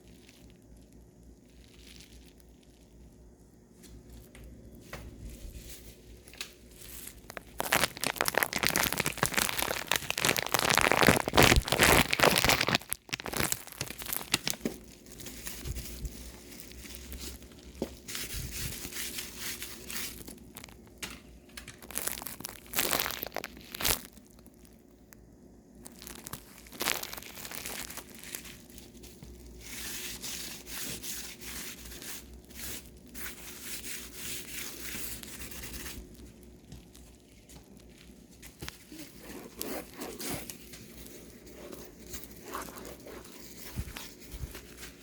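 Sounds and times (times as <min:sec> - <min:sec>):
crumpling and crinkling: 0:00.0 - 0:45.0
faint steady hum: 0:00.0 - 0:45.0.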